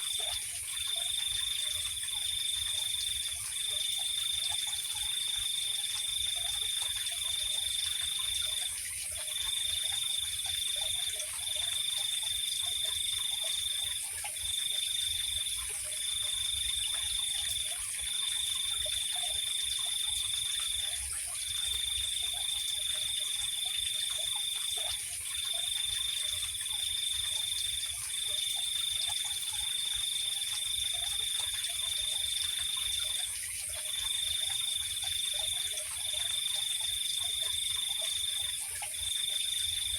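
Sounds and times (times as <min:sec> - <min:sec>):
cricket-like trill: 0:00.0 - 0:39.9
faint frog calls: 0:00.0 - 0:39.9.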